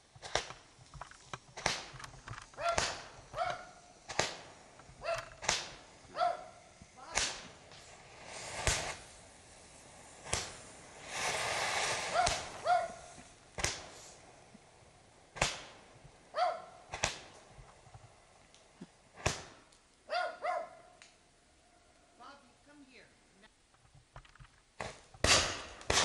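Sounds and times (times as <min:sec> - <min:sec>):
fireworks bangs and pops: 0:00.0 - 0:20.1, 0:23.6 - 0:26.0
rushing hiss: 0:00.0 - 0:23.3, 0:24.7 - 0:26.0.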